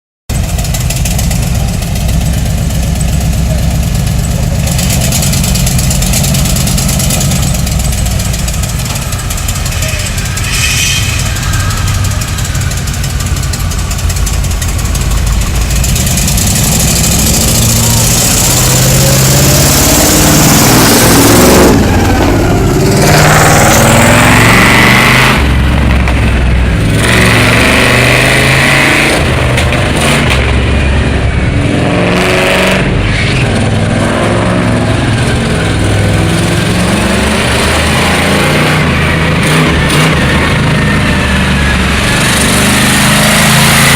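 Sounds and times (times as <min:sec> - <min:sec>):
monster truck engine revving: 0:00.3 - 0:43.9.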